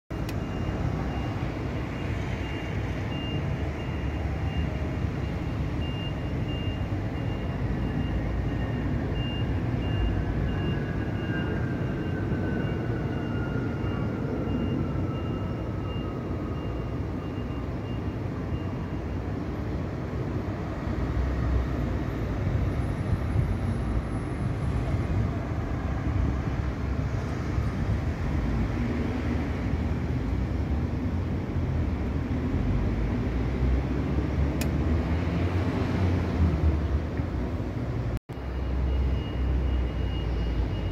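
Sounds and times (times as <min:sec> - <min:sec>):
distant road traffic hum: 0:00.1 - 0:40.9.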